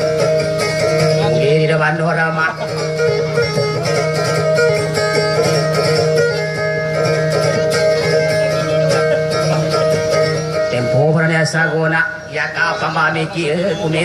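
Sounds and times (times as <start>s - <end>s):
held drone notes: 0.0s - 14.0s
plucked string instrument: 0.0s - 14.0s.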